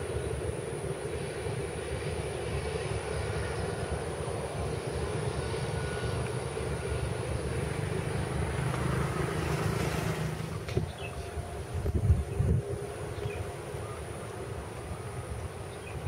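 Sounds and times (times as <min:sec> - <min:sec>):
propeller aircraft engine droning: 0:00.0 - 0:16.0.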